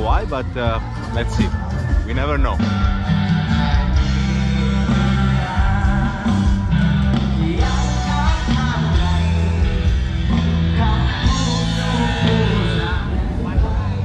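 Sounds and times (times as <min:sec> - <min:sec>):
bass line: 0:00.0 - 0:14.0
rock music: 0:00.0 - 0:14.0
person singing: 0:02.6 - 0:14.0.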